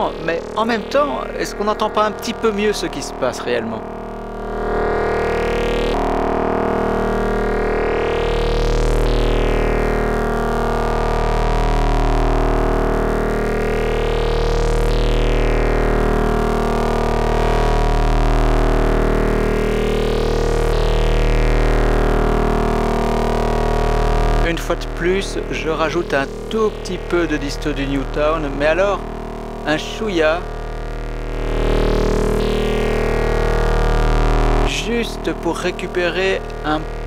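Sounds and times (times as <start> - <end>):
synthesizer drone: 0.0 - 37.0.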